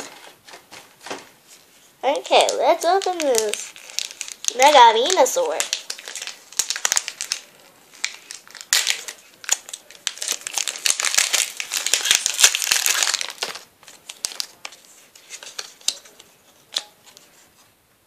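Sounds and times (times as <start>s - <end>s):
foil wrapper crinkling: 2.3s - 17.2s.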